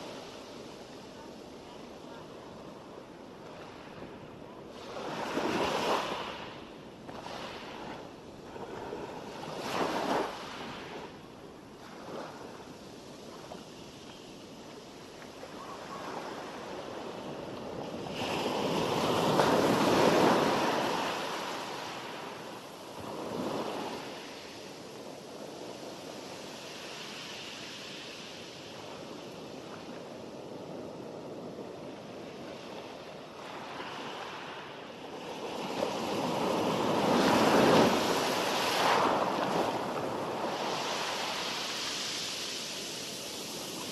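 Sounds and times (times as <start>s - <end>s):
sea waves breaking on beach: 4.7s - 11.2s, 11.8s - 43.9s.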